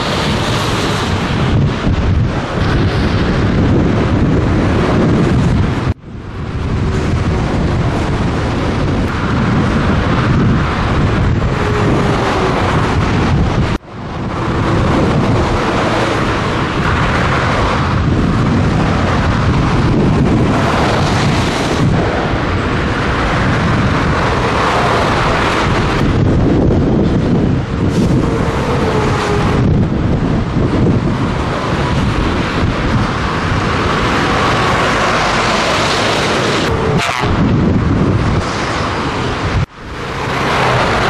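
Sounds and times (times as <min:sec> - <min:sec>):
truck engine and road noise: 0:00.0 - 0:41.0
wind buffeting microphone: 0:00.0 - 0:41.0.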